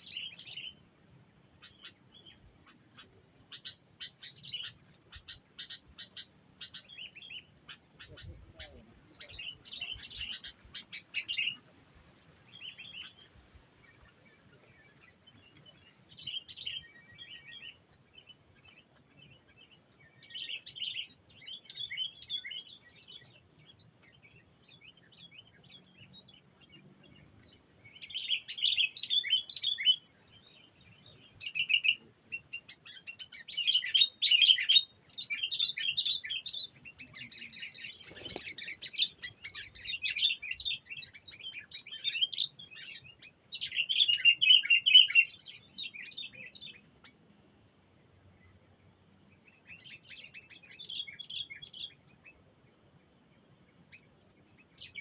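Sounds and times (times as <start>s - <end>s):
birds chirping and chattering: 0.0s - 55.0s.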